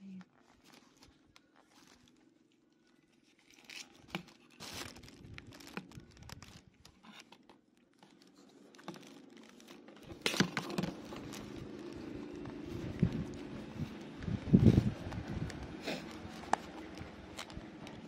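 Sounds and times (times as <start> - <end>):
ear pad crinkling and scratching: 0.1 - 18.0.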